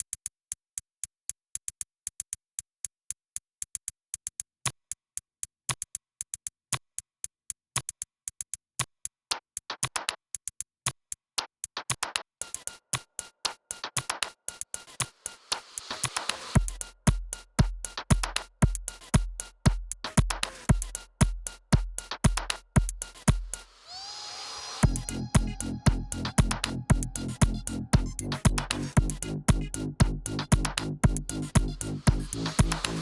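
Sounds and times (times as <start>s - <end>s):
percussive beat of clicks and ticks: 0.0s - 23.7s, 24.8s - 33.0s.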